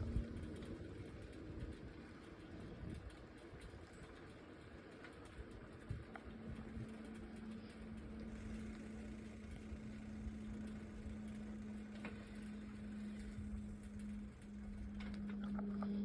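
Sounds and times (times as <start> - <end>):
tyres rolling on road: 0.0 - 15.4
steady bicycle hum: 0.0 - 16.0
wind rumble: 0.0 - 16.0.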